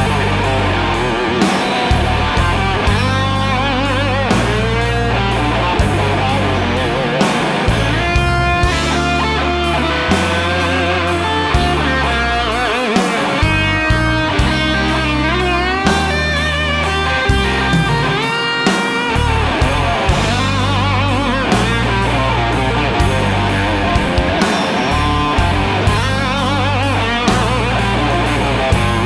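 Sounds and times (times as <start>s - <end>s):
bass guitar: 0.0s - 29.0s
electric guitar lead: 0.0s - 29.0s
steady drum beat: 0.0s - 29.0s.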